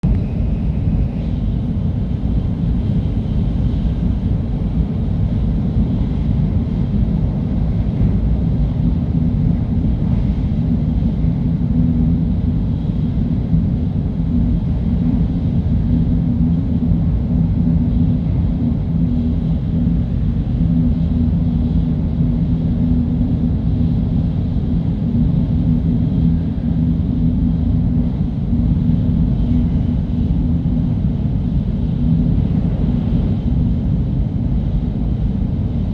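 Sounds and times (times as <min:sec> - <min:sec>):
faint hum: 0:00.0 - 0:35.9
high-speed train rumble: 0:00.0 - 0:35.9.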